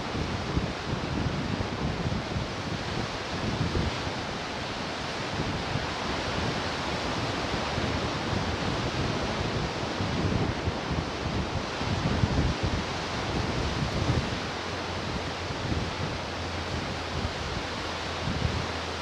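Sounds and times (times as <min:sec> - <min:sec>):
ocean surf washing ashore: 0:00.0 - 0:19.0
wind buffeting microphone: 0:00.0 - 0:19.0.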